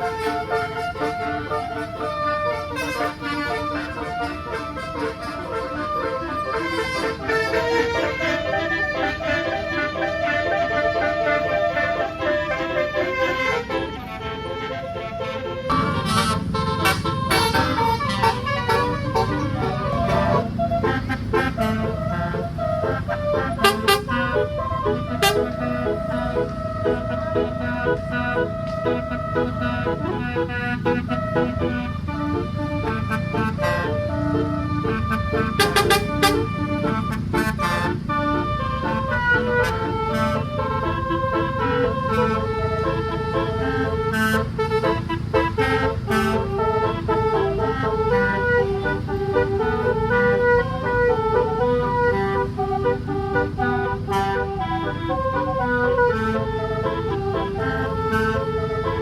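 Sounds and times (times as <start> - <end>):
bus engine rumble: 0.0 - 59.0
multi-tone air horn tune: 0.0 - 59.0.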